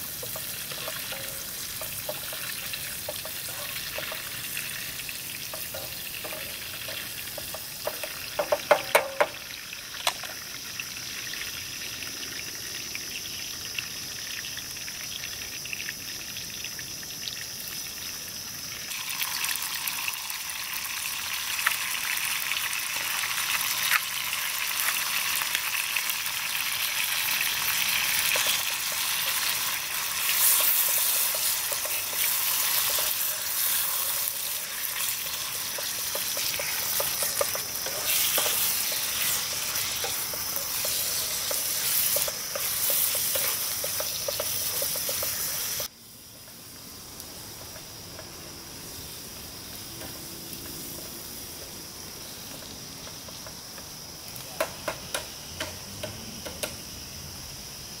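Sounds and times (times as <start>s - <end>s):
food sizzling in frying pan: 0.0s - 58.0s.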